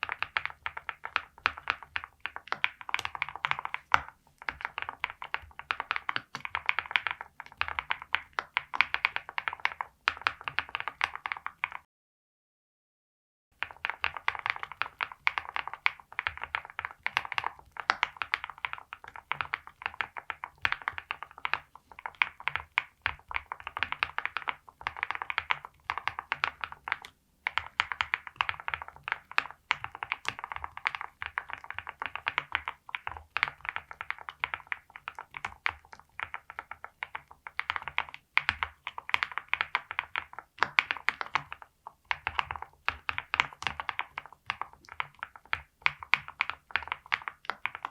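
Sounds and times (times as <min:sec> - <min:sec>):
typing on a keyboard: 0:00.0 - 0:11.9, 0:13.6 - 0:47.9.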